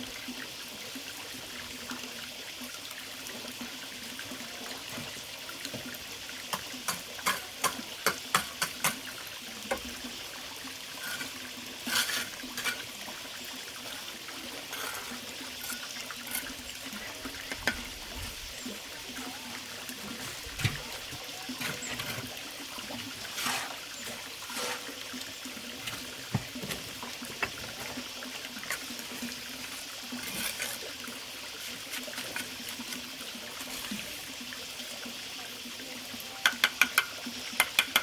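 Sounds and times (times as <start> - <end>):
water trickling: 0.0 - 38.0.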